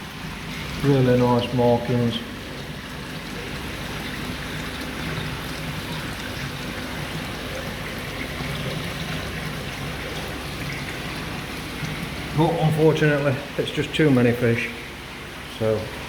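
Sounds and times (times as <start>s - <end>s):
water trickling into a pond: 0.0s - 16.0s.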